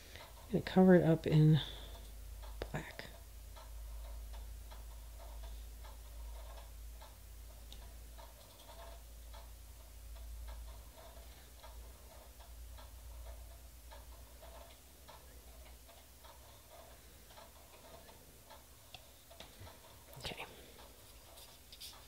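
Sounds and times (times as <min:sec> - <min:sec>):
faint regular ticking: 0:00.0 - 0:22.0
low steady hum: 0:00.0 - 0:22.0.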